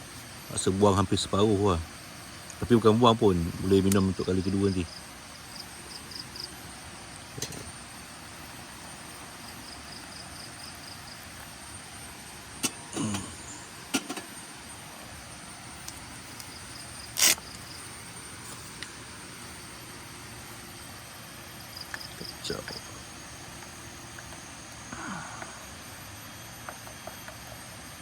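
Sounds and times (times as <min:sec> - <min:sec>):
insects chirping: 0:00.0 - 0:28.0
outdoor hiss: 0:00.0 - 0:28.0.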